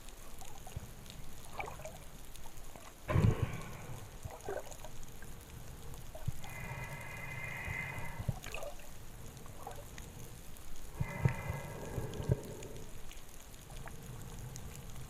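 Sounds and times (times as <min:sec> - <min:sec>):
water sloshing and bubbling: 0:00.0 - 0:15.0.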